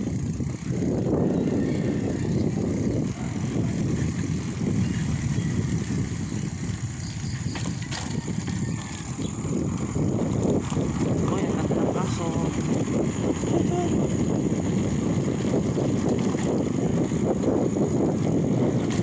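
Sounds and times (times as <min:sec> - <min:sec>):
wind and bicycle road noise: 0:00.0 - 0:19.0.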